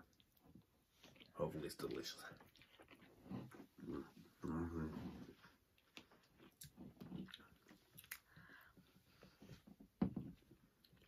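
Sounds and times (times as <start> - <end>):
person chewing spaghetti: 0.0 - 11.0.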